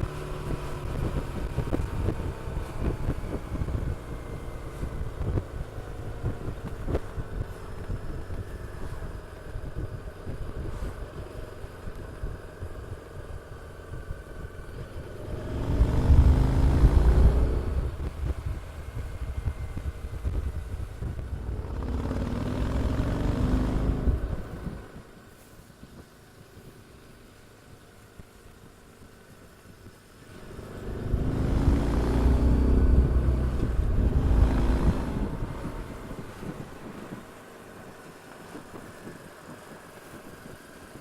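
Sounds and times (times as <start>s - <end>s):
motorcycle engine accelerating: 0.0s - 25.2s, 28.2s - 41.0s.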